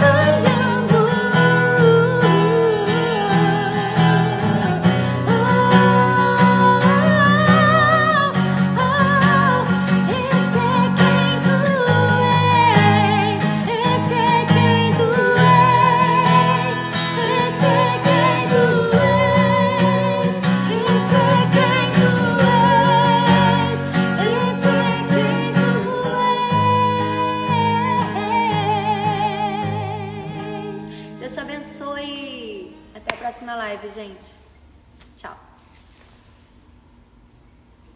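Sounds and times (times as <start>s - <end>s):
strummed acoustic guitar: 0.0s - 31.5s
woman singing with vibrato: 0.0s - 32.8s.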